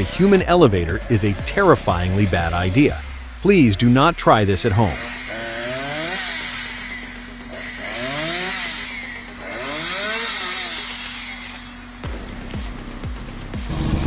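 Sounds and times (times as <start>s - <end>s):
steady hum: 0.0s - 7.8s, 8.4s - 14.0s
chainsaw revving: 0.0s - 14.0s.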